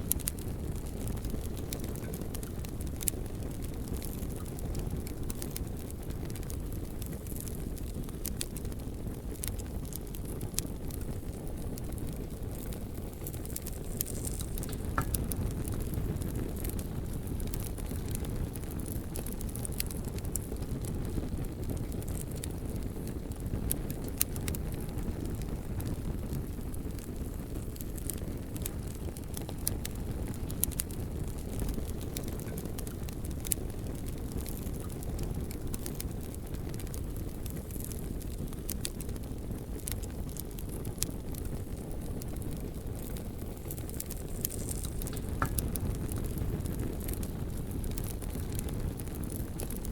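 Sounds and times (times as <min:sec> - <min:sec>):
bonfire flames rushing: 0:00.0 - 0:49.9
burning logs crackling: 0:00.0 - 0:49.9.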